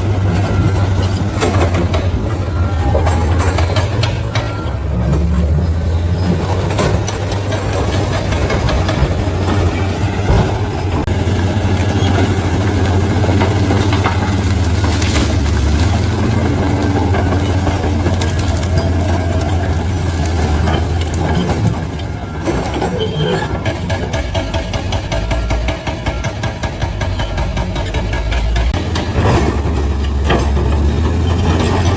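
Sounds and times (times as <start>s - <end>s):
bulldozer diesel engine running: 0.0s - 31.9s
sharp clanks and knocks: 0.2s - 5.6s, 6.2s - 31.9s.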